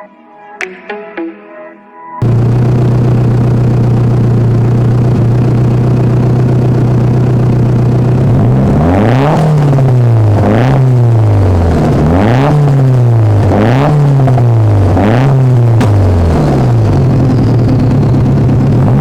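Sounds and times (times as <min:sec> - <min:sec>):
car engine idling and revving: 0:02.2 - 0:19.0.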